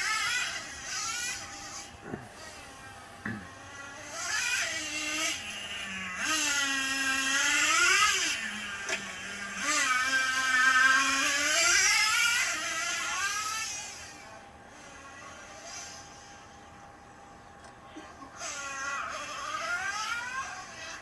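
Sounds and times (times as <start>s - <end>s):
toy truck motor whining: 0.0s - 16.5s, 18.0s - 21.0s.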